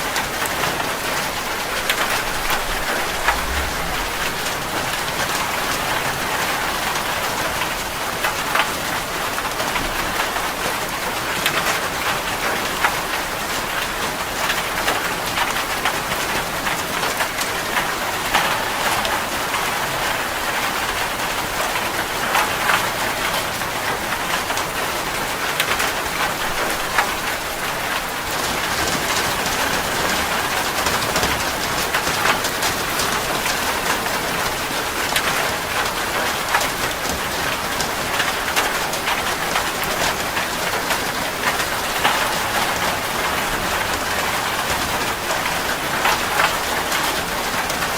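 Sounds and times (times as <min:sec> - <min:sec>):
heavy rain on a metal roof: 0:00.0 - 0:47.9.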